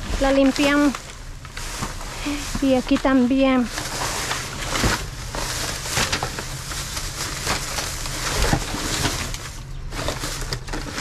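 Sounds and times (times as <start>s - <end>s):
trash bag rustling and crinkling: 0.0s - 11.0s.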